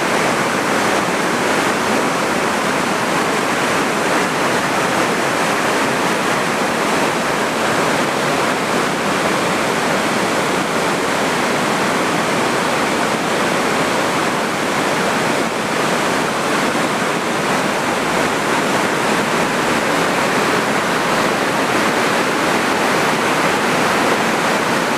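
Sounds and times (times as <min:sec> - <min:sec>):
river water rushing over dam: 0:00.0 - 0:24.9.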